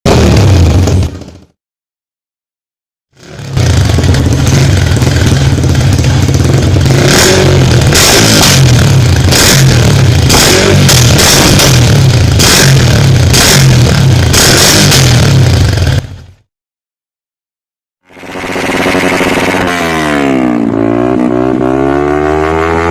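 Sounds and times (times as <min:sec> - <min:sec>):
motorcycle engine revving: 0:00.1 - 0:01.6, 0:03.2 - 0:16.4, 0:18.0 - 0:22.9.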